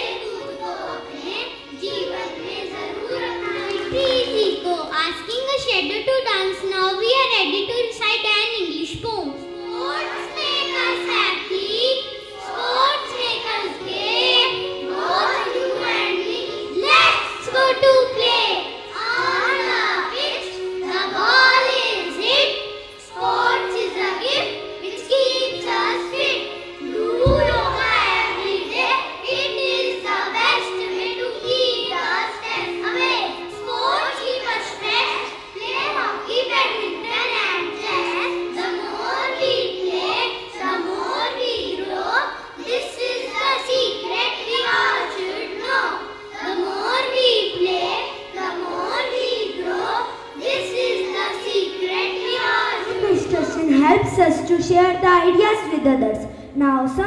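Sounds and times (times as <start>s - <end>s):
children singing: 0.0s - 7.7s, 8.5s - 54.5s
music: 0.0s - 57.0s.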